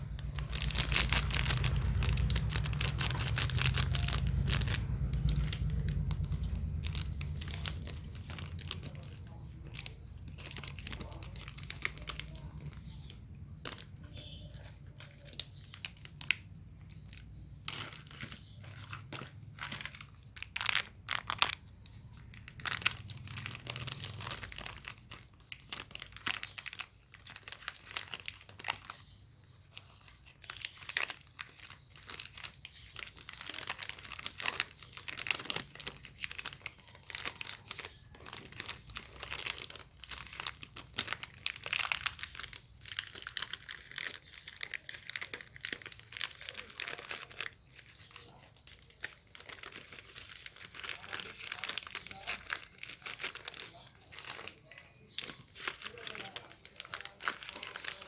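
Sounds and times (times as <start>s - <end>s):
wrappers crinkling and tearing: 0.0s - 58.0s.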